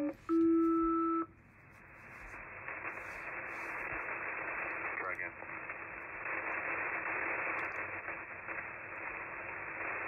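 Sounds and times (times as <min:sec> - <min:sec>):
radio static hiss: 0:01.8 - 0:10.0.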